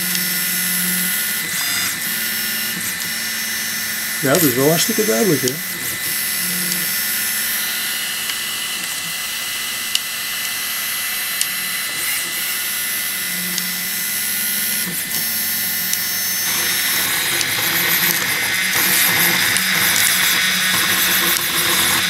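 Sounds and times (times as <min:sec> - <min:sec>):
stepper motors humming and whining: 0:00.0 - 0:22.0.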